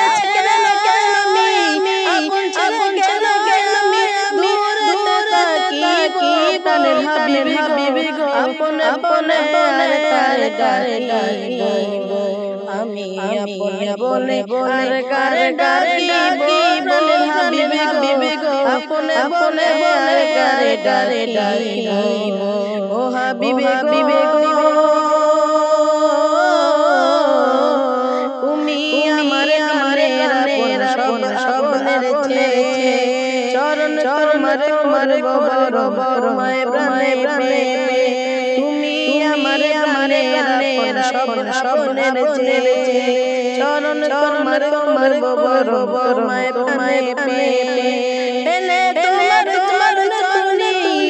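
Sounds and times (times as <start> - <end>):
boy singing devotional song: 0.0 - 51.0.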